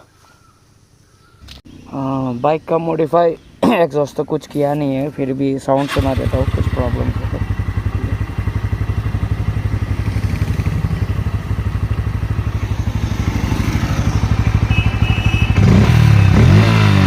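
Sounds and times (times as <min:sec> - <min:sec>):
motorcycle engine idling and revving: 0:01.7 - 0:17.0.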